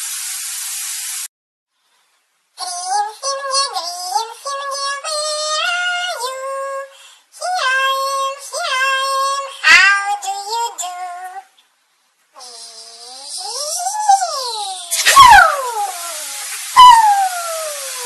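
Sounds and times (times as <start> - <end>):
synthetic singing voice: 2.6 - 11.6, 12.4 - 18.0.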